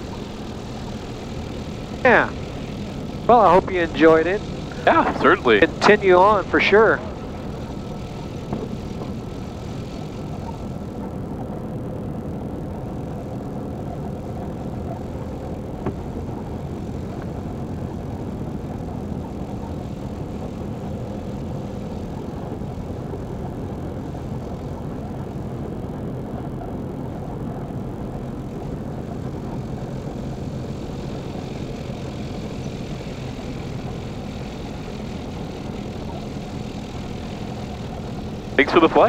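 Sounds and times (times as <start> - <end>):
aircraft propeller engine idling: 0.0 - 39.0.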